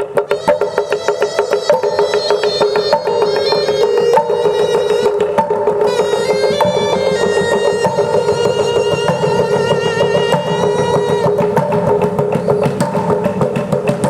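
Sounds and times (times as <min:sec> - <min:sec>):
light percussion strikes: 0:00.0 - 0:14.0
instrumental melody of held notes: 0:00.1 - 0:12.9.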